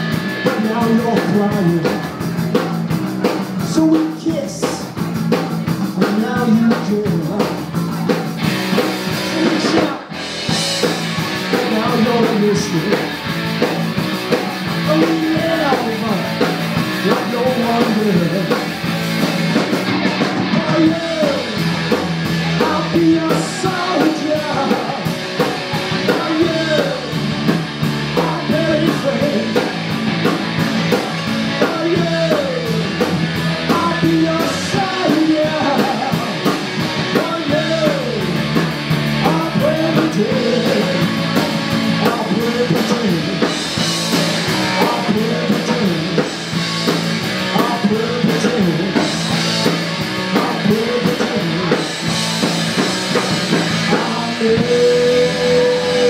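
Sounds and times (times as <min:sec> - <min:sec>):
bass guitar: 0:00.0 - 0:56.0
drum kit with fast cymbal beat: 0:00.0 - 0:56.0
electric guitar: 0:00.0 - 0:56.0
person singing: 0:00.4 - 0:02.6, 0:03.6 - 0:05.0, 0:05.8 - 0:08.3, 0:09.2 - 0:10.2, 0:11.0 - 0:13.2, 0:14.4 - 0:18.6, 0:20.1 - 0:29.9, 0:30.8 - 0:46.3, 0:47.4 - 0:56.0.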